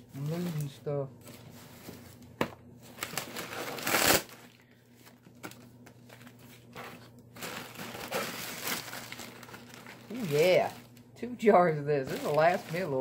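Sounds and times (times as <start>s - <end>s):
bubble wrap and paper crinkling: 0.0s - 13.0s.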